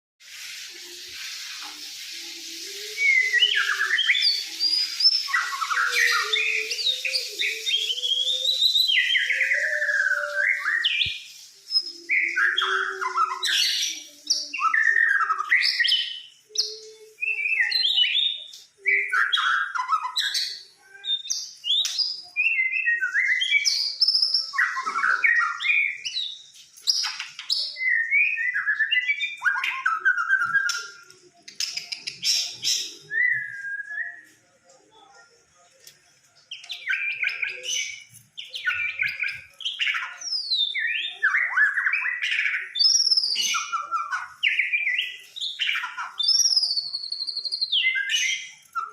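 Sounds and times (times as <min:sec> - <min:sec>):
bird singing whistled phrases: 0:00.3 - 0:34.7, 0:36.5 - 0:48.9.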